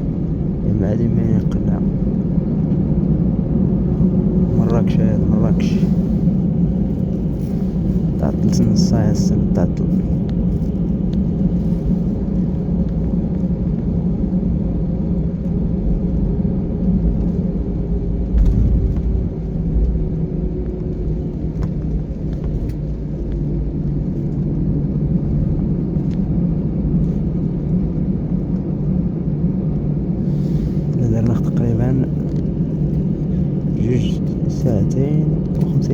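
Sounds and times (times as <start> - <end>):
airliner engines rumbling: 0.0 - 35.9
faint steady hum: 0.0 - 35.9.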